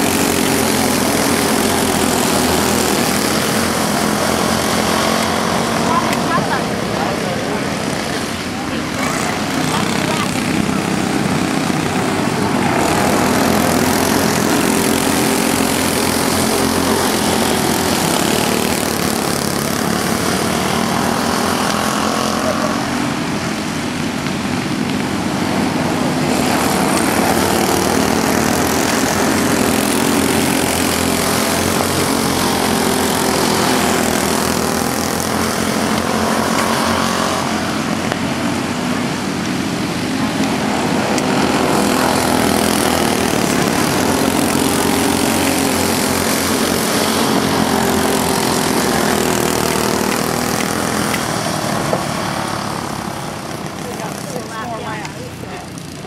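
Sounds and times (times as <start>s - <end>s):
go-kart engines racing past: 0.0s - 56.0s.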